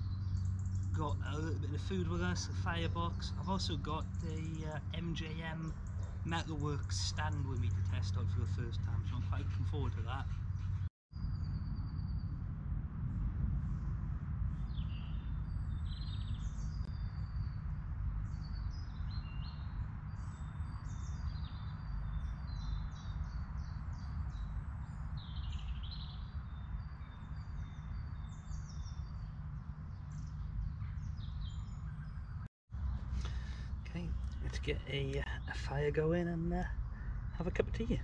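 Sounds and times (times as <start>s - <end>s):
birds chirping and calling: 0.0s - 10.9s, 18.2s - 38.0s
low rumble: 0.0s - 38.0s.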